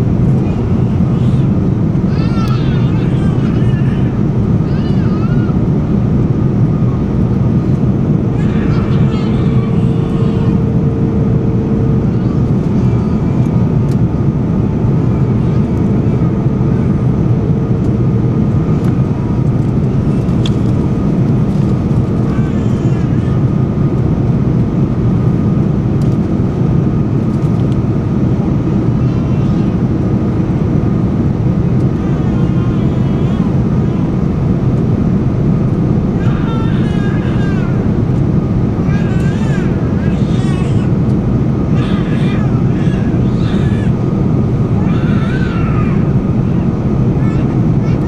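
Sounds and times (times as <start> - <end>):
airliner engine and airflow rush: 0.0 - 48.0
faint steady hum: 0.0 - 48.0.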